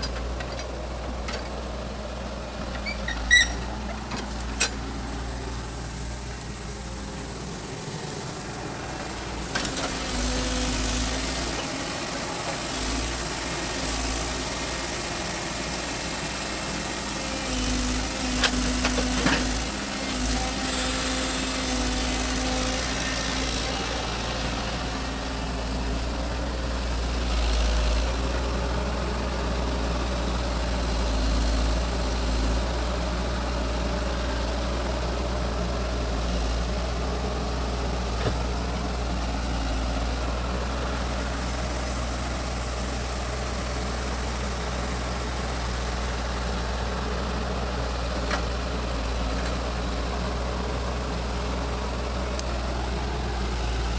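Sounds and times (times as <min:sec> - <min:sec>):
excavator diesel engine rumbling: 0:00.0 - 0:53.9.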